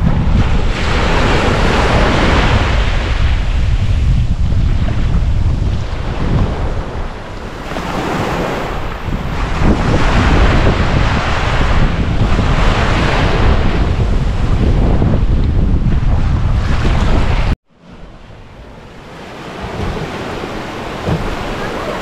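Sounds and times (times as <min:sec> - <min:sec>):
ocean waves breaking on beach: 0:00.0 - 0:22.0
wind buffeting microphone: 0:00.0 - 0:22.0.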